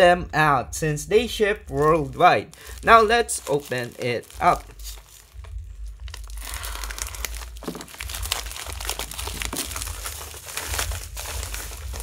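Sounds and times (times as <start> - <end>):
plastic bag crinkling: 1.8 - 12.0
plastic tearing: 2.0 - 12.0.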